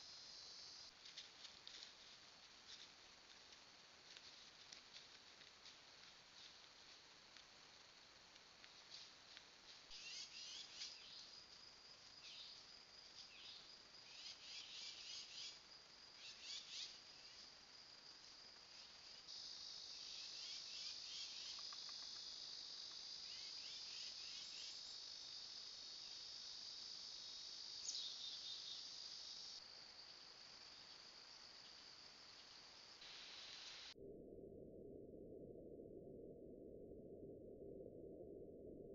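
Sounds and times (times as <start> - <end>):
high insect drone: 0.0 - 34.0
crickets chirping: 0.0 - 38.9.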